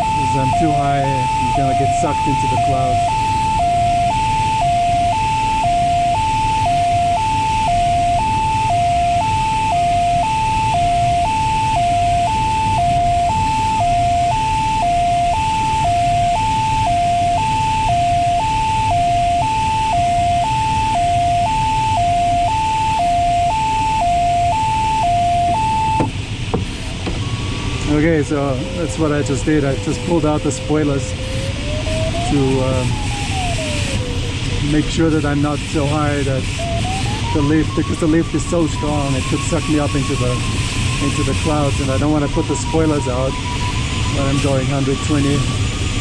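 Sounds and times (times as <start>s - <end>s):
two-tone electronic alarm beeps: 0.0s - 26.1s, 34.7s - 46.0s.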